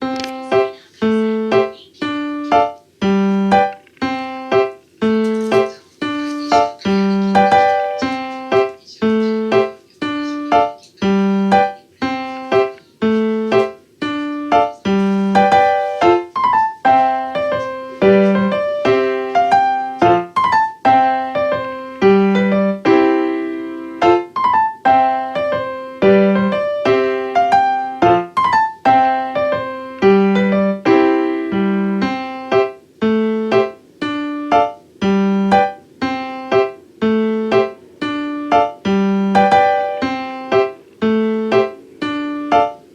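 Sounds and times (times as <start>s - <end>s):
calm piano melody: 0.0s - 42.9s.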